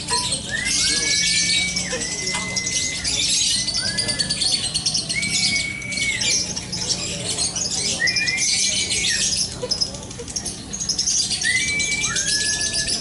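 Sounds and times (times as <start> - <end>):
lovebirds chattering trill: 0.0 - 13.0
whistled bird notes: 0.0 - 13.0.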